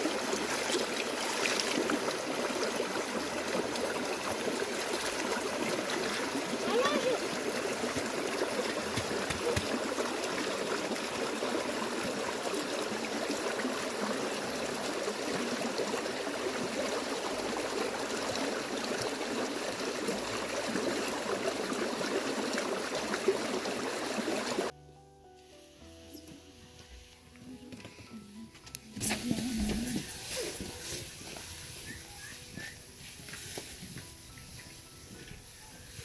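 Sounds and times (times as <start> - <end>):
stream running: 0.0 - 24.7, 28.9 - 35.4.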